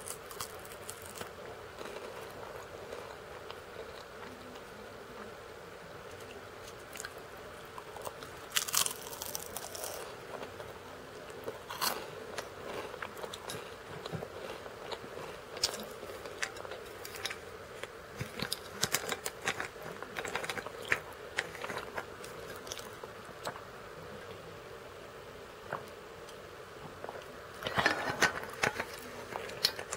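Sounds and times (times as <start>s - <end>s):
crackers being crunched: 0.0s - 4.7s, 6.1s - 23.6s, 27.0s - 29.9s
faint steady hum: 0.0s - 29.9s.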